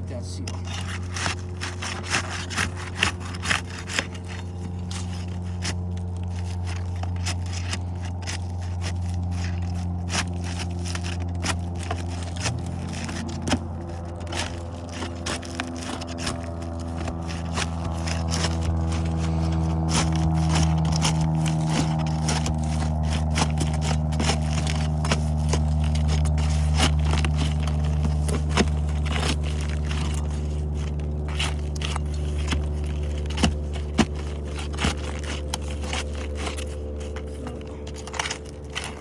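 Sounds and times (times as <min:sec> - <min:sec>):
low engine-like hum: 0:00.0 - 0:39.0
shingle scraping and cracking: 0:00.0 - 0:39.0.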